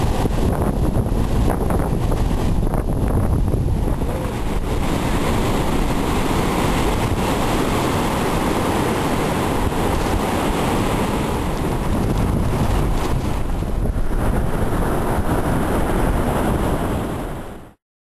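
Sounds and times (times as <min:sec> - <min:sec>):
ocean surf breaking: 0:00.0 - 0:17.8
wind buffeting microphone: 0:00.0 - 0:17.8.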